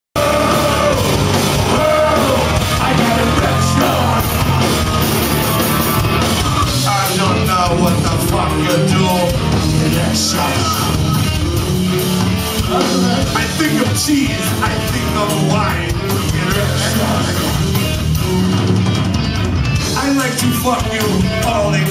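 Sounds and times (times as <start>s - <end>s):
yelled punk vocal: 0.2s - 18.5s, 19.8s - 21.9s
rock band playing: 0.2s - 21.9s.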